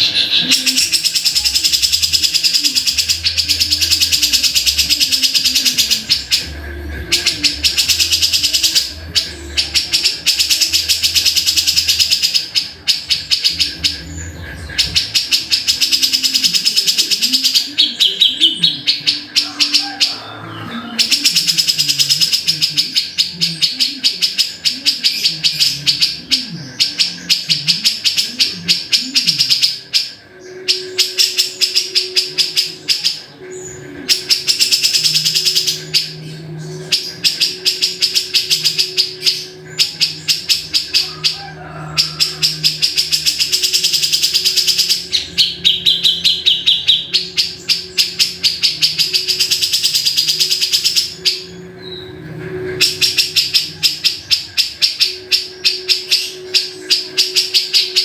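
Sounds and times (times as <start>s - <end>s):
bulbul calling in rapid sharp notes: 0.0s - 51.6s, 52.6s - 58.0s.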